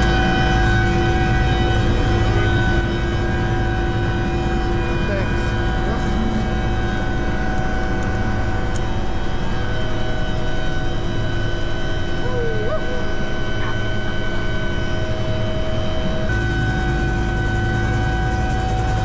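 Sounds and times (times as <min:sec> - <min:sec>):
helicopter running: 0:00.0 - 0:19.0.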